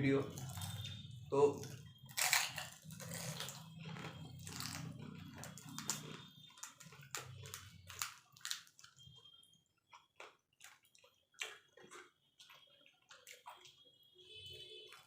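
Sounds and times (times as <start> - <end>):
crisp shells crunching and chewing: 0.3 - 1.0, 1.6 - 14.0.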